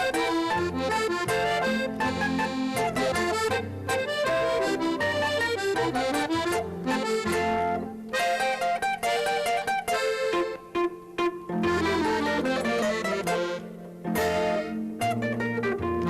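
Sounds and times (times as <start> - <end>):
folk dance tune on accordion: 0.0 - 16.0.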